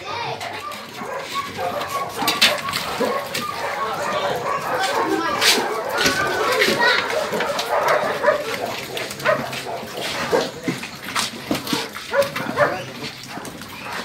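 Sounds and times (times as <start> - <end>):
dogs barking: 0.4 - 14.0.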